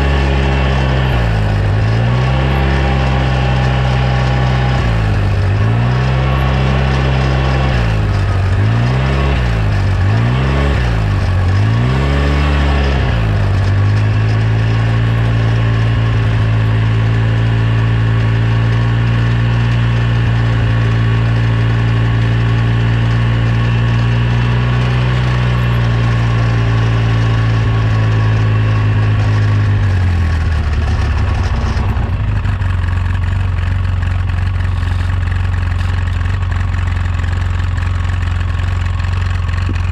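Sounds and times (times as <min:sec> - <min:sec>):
utility vehicle engine revving: 0:00.0 - 0:39.9.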